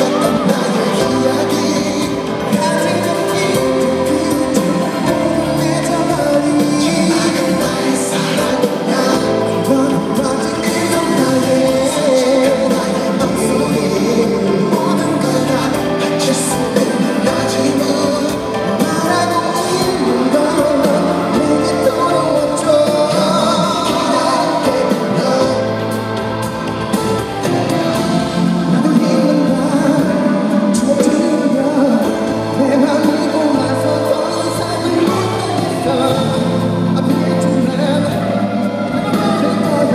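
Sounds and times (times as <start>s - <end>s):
live pop song over sound system: 0.0s - 39.9s
man singing lead vocal: 0.0s - 39.9s.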